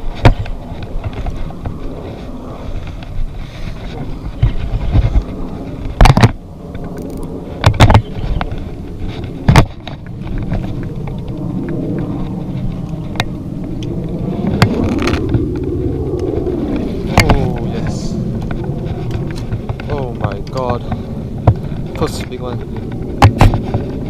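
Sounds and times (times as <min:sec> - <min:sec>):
low rubbing rumble: 0:00.0 - 0:24.0.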